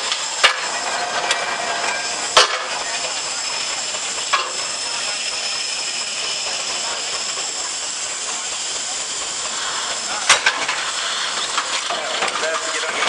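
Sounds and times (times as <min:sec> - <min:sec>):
steam engine hissing: 0:00.0 - 0:13.0.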